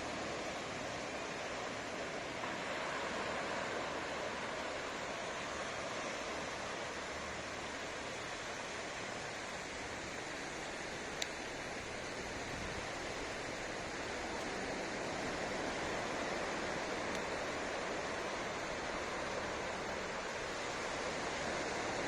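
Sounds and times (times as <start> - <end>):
sea waves washing onto beach: 0.0 - 22.0.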